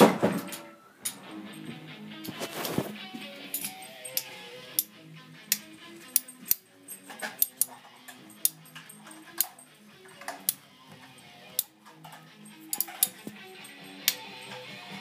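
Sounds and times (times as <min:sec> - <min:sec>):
background music: 0:00.3 - 0:15.0.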